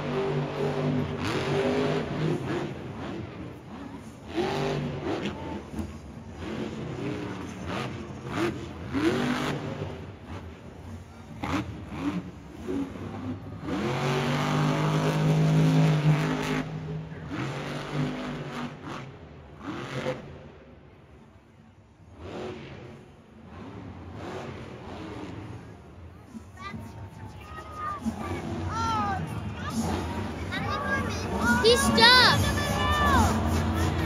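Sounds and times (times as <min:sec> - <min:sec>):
truck engine revving: 0:00.0 - 0:20.6, 0:22.0 - 0:34.0.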